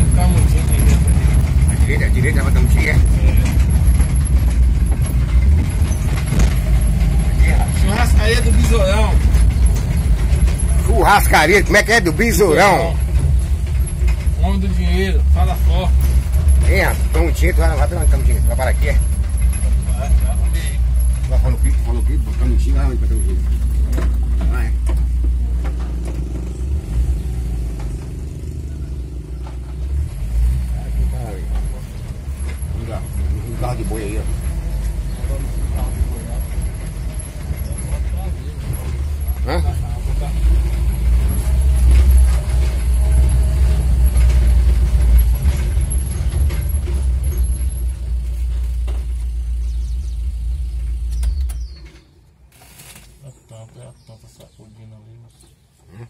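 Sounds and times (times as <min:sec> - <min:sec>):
low engine rumble: 0:00.0 - 0:56.0.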